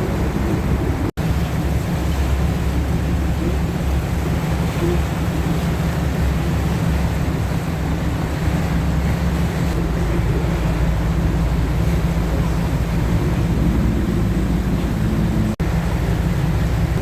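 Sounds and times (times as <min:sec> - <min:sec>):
boat engine running: 0:00.0 - 0:17.0
wind on microphone: 0:00.0 - 0:17.0.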